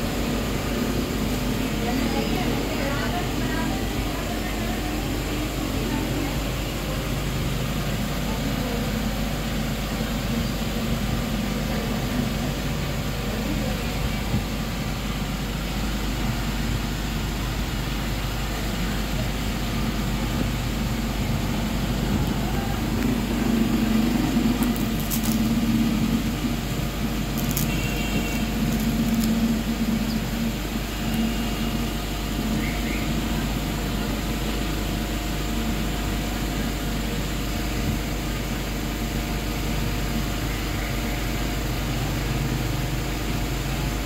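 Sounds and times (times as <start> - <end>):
low background rumble: 0.0 - 44.0.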